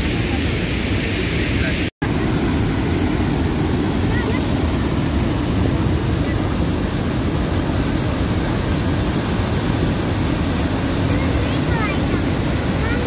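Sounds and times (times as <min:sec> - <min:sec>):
floodwater rushing over road: 0:00.0 - 0:13.0.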